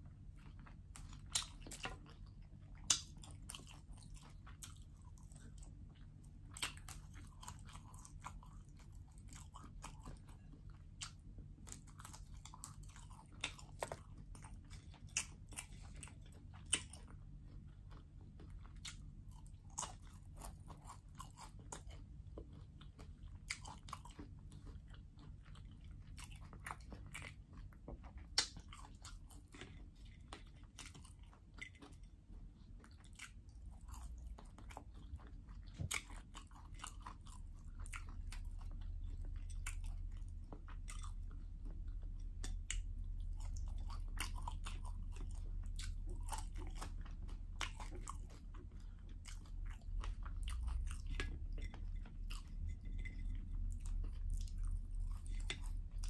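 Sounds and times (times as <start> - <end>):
crunchy chewing: 0.0 - 56.0
low steady hum: 0.0 - 56.0.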